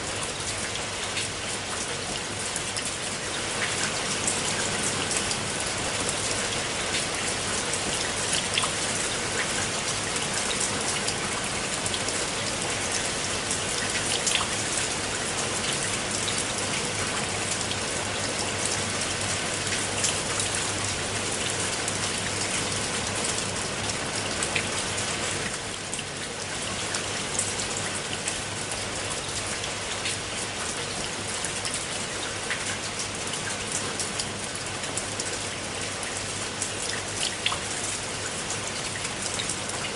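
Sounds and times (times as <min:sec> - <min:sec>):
rain falling on water: 0:00.0 - 0:39.9
sharp water drips: 0:00.2 - 0:39.9.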